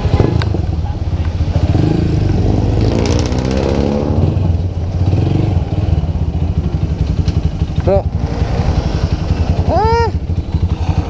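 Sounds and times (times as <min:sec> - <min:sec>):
motorcycle engine pulsing: 0:00.0 - 0:11.0.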